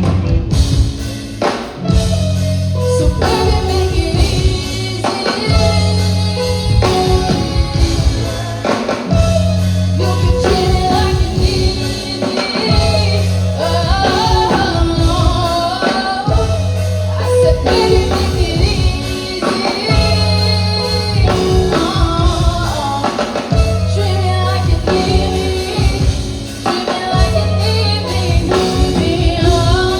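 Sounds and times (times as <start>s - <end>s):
bass line: 0.0s - 29.9s
drums: 0.0s - 29.9s
electric guitar: 0.0s - 29.9s
person singing: 1.8s - 29.9s.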